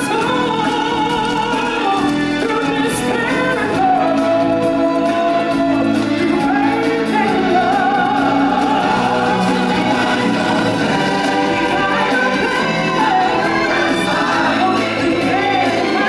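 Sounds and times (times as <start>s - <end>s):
musical accompaniment: 0.0s - 16.0s
people singing: 0.0s - 16.0s.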